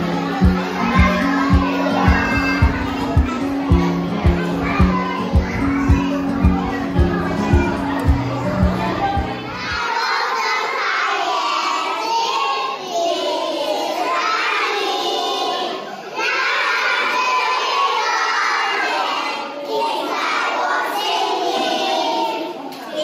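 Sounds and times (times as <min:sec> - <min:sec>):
children singing: 0:00.0 - 0:23.0.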